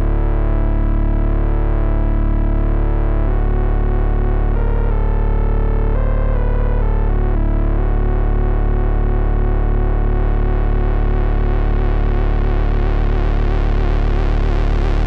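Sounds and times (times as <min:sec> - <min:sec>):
distorted analog synthesizer: 0:00.0 - 0:15.0
held low bass note: 0:00.0 - 0:15.0.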